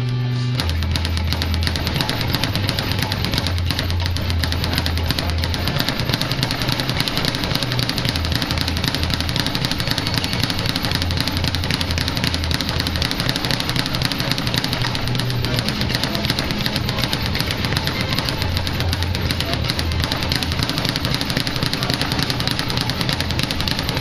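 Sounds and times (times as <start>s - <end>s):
speed bag rattling: 0.6s - 24.0s.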